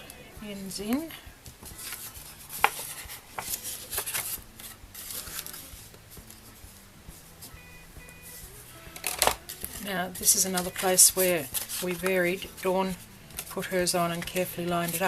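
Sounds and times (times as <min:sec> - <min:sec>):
cardstock rustling and rubbing: 0:01.6 - 0:07.6, 0:08.2 - 0:15.0.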